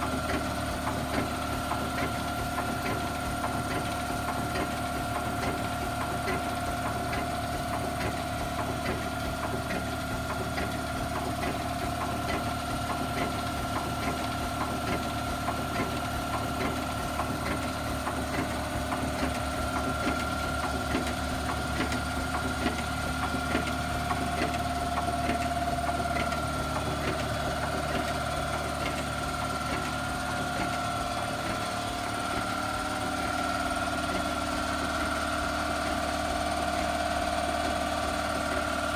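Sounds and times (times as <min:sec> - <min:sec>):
steam engine beating on compressed air: 0:00.0 - 0:37.7.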